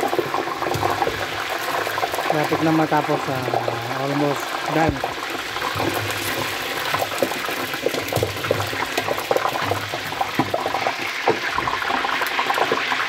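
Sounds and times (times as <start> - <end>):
deep-frying in oil: 0.0 - 13.0
small crackling pops: 0.0 - 13.0.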